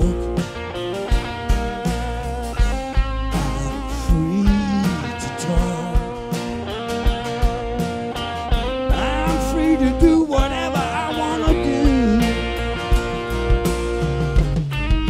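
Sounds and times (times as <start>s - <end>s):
drum kit beat: 0.0s - 15.0s
electric guitar solo: 0.0s - 15.0s.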